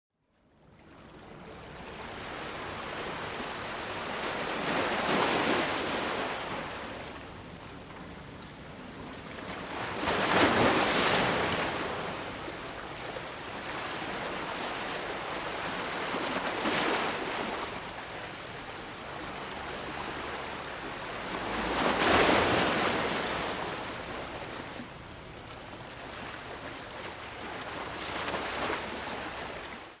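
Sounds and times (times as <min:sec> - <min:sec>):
ocean waves breaking: 0:01.1 - 0:30.0.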